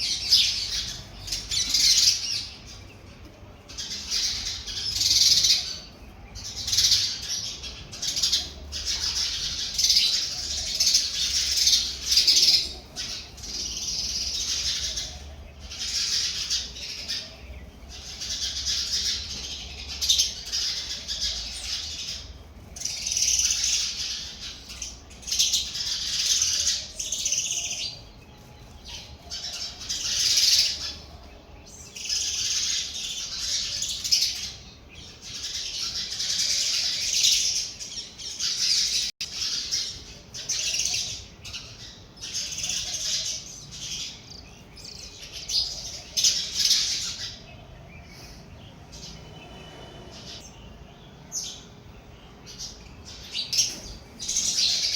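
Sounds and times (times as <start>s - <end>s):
sparrows chirping: 0.0s - 54.9s.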